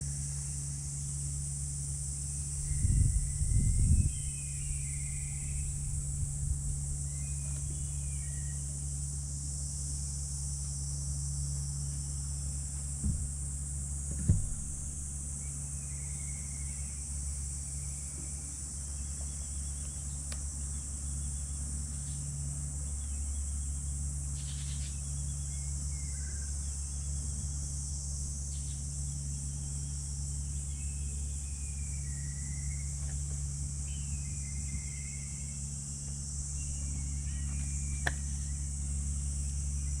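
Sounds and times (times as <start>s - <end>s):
high-pitched insect chorus: 0.0s - 40.0s
low hum: 0.0s - 40.0s
short insect chirps: 0.0s - 40.0s.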